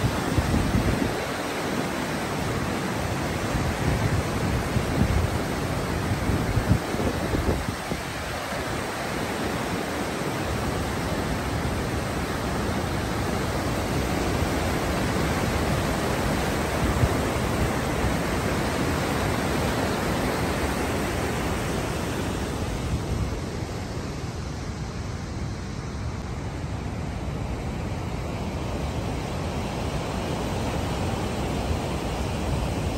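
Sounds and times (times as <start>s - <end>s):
river rushing over boulders: 0.0s - 32.9s.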